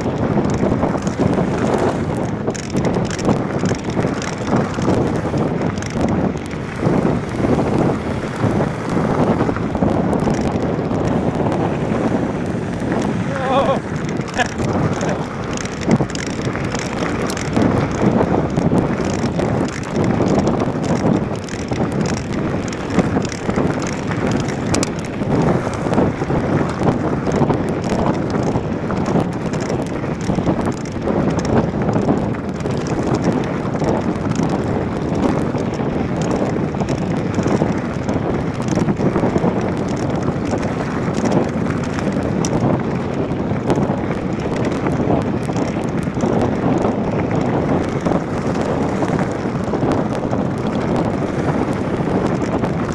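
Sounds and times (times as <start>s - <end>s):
bike tyres on gravel: 0.0s - 52.9s
small clicks and knocks: 0.0s - 52.9s
wind buffeting microphone: 0.0s - 52.9s.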